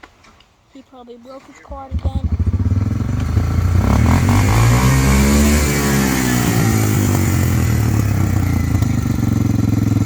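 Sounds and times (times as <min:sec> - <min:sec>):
atv engine revving: 0:01.8 - 0:10.0.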